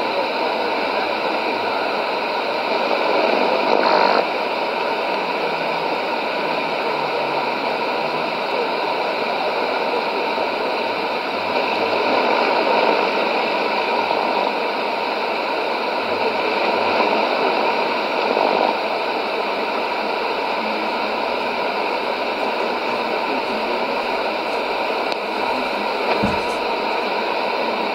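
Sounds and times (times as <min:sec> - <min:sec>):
shortwave radio static hiss: 0:00.0 - 0:27.9.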